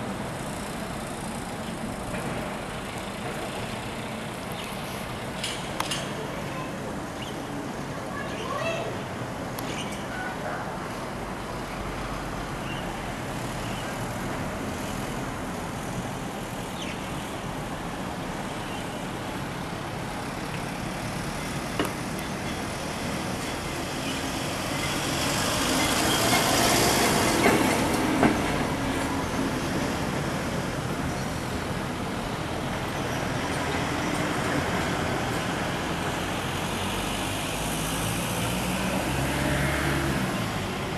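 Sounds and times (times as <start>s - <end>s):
tow truck engine: 0.0s - 8.0s, 11.0s - 40.9s
road traffic noise: 0.0s - 40.9s.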